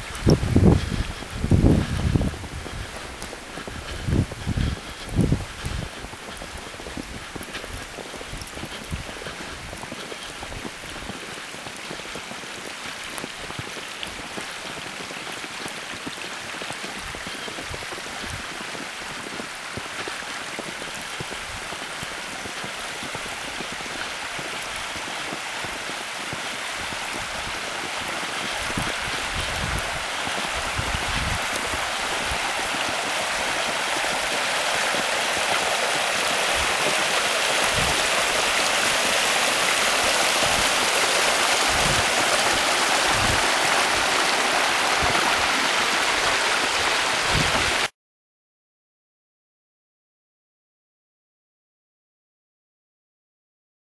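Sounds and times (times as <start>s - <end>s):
running water rushing: 0.0s - 47.9s.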